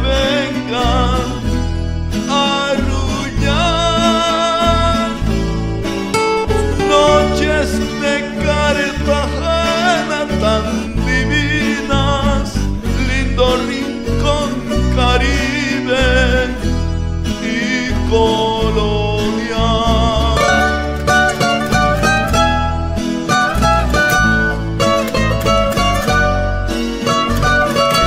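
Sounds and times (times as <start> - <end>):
latin instrumental music: 0.0 - 28.0.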